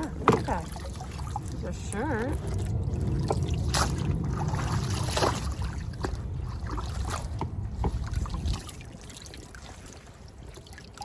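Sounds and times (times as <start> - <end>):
low rumble: 0.0 - 9.0
water dripping and trickling: 0.0 - 11.0.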